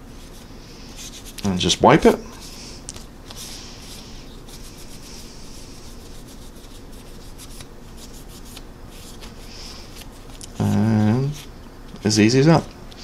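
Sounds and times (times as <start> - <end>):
paper towel rubbing on plastic: 0.1 - 2.6, 3.3 - 11.5.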